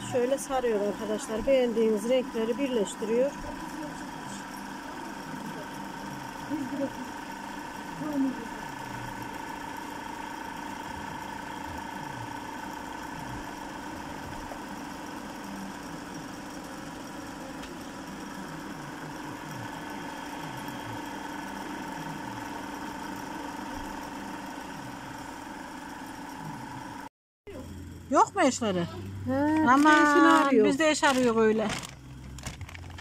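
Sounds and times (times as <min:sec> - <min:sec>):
yarn winding machine motor hum: 0:00.0 - 0:33.0.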